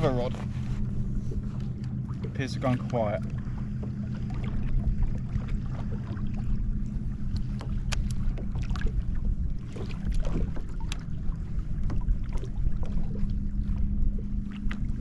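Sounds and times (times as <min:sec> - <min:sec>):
water lapping against hull: 0:00.0 - 0:15.0
wind rumbling on microphone: 0:00.0 - 0:15.0.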